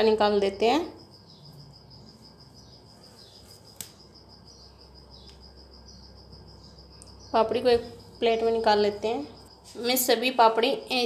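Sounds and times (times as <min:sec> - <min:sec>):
cricket chirring: 0:00.0 - 0:11.0.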